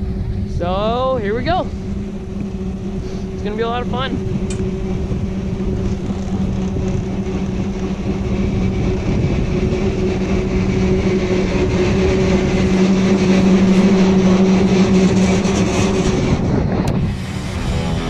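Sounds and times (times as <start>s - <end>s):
low mechanical hum: 0.0s - 18.0s
wind noise on microphone: 0.0s - 18.0s
snowboard scraping over snow: 0.7s - 18.0s.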